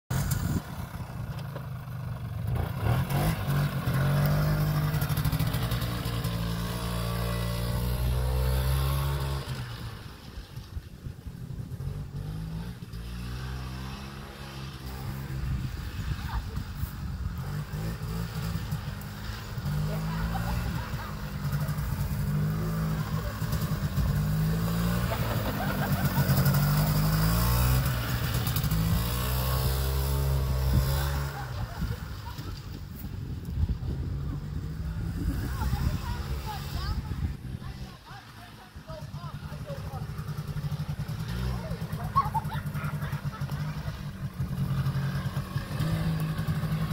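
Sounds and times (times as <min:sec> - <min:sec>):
quad engine revving: 0:00.1 - 0:46.9.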